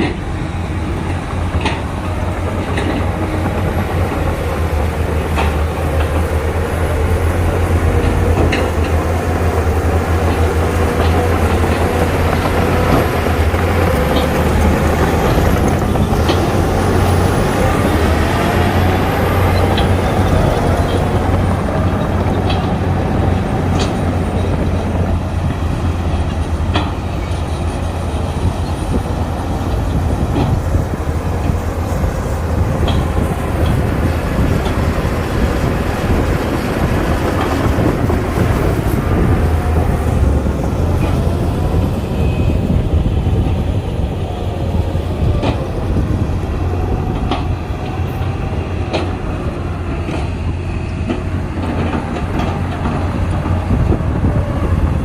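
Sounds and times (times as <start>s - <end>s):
bulldozer diesel engine running: 0.0s - 55.0s
clanks of steel tracks: 0.0s - 55.0s.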